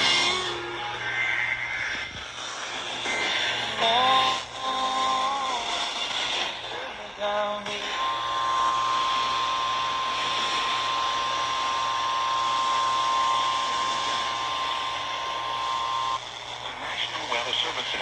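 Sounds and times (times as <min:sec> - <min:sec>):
broadcast reception hiss: 0:00.0 - 0:18.0.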